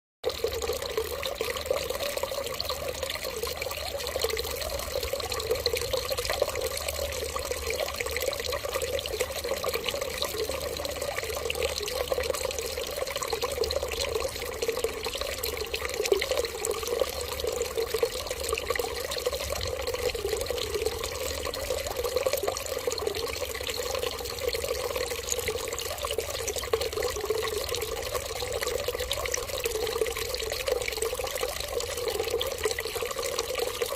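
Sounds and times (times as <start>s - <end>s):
water trickling: 0.2s - 33.9s.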